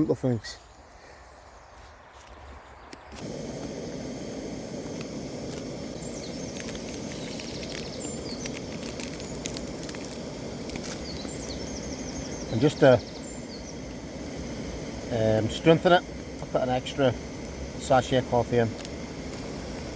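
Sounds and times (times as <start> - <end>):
small birds chirping: 0.0 - 19.9
gas burner hissing: 2.9 - 19.9.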